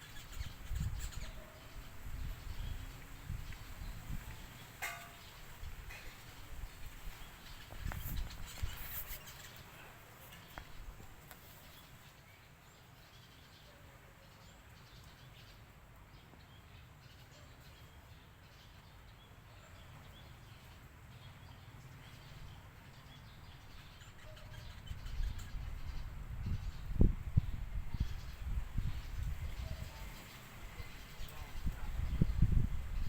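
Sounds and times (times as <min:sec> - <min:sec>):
faint bird chirps: 0:00.0 - 0:10.9, 0:16.4 - 0:33.0
low rumble of wind: 0:00.0 - 0:13.6, 0:14.5 - 0:33.0.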